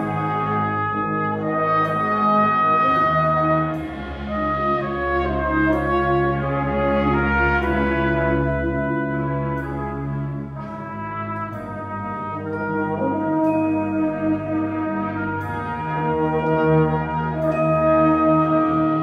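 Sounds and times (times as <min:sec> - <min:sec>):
brass band playing chords: 0:00.0 - 0:19.0.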